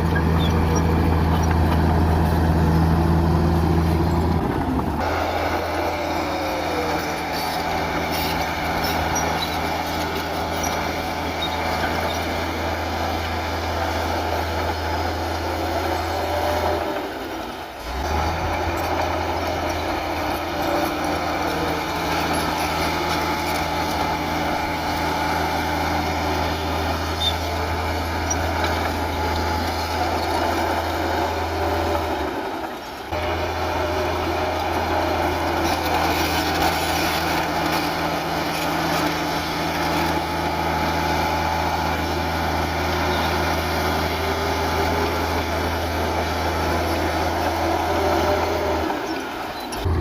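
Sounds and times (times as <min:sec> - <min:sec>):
bulldozer diesel engine: 0:00.0 - 0:50.0.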